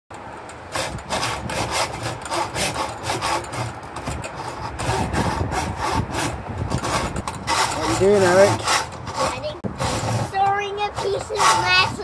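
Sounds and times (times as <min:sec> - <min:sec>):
hacksaw cutting metal: 0:00.4 - 0:12.0.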